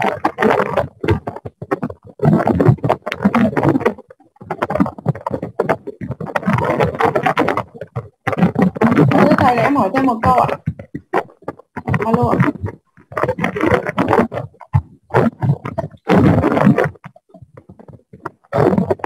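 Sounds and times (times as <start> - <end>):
garbled choppy call audio: 0.0 - 19.0
interference noise: 0.0 - 19.0.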